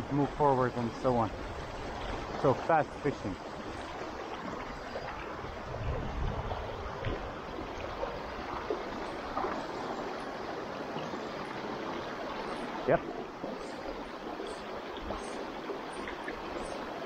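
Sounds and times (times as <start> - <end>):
stream rushing over stones: 0.0 - 17.0.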